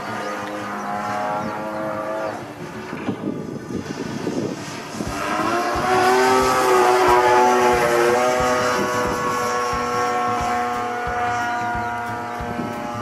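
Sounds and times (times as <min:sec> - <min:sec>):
model airplane engine flying past: 0:00.0 - 0:13.0.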